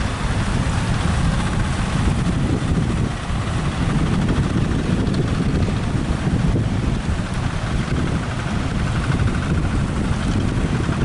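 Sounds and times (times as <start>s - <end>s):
surf breaking on beach: 0.0s - 11.0s
wind rumbling on microphone: 0.0s - 11.0s.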